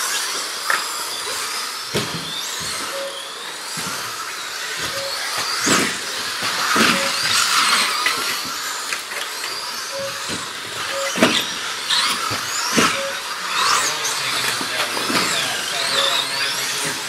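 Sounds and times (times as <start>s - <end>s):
rc cars electric motors whining: 0.0s - 17.0s
rc cars knocking on track: 0.6s - 17.0s.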